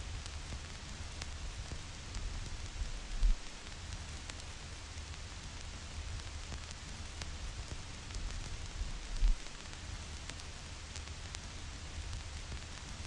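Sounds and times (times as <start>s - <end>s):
vinyl surface hiss: 0.0s - 13.0s
vinyl clicks and pops: 0.2s - 13.0s.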